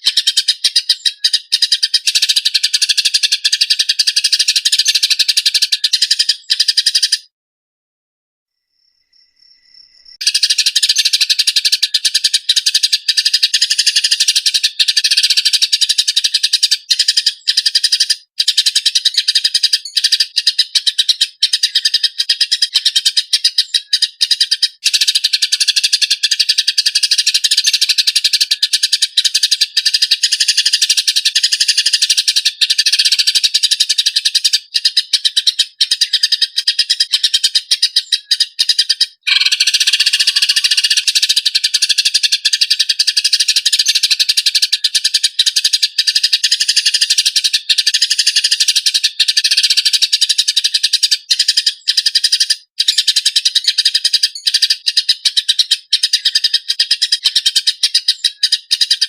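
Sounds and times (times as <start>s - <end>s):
sparrows chirping harshly: 0.0s - 7.3s, 8.9s - 59.0s.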